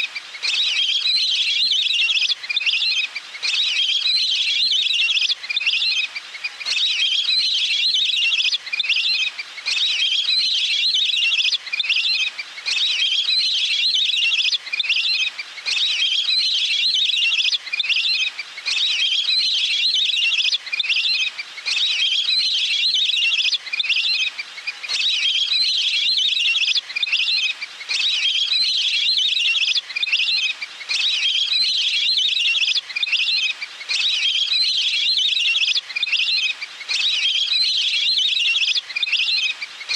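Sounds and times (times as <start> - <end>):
recorded water bird chirping: 0.0 - 39.9.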